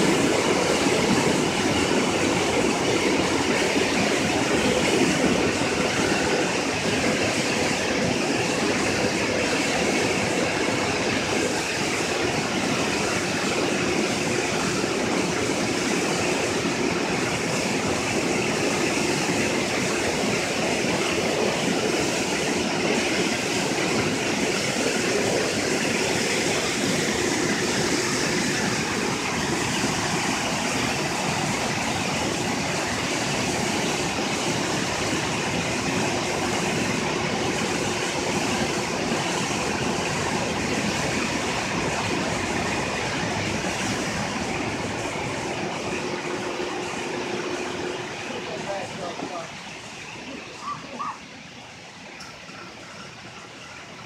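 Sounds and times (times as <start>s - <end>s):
rushing water crashing: 0.0s - 54.0s.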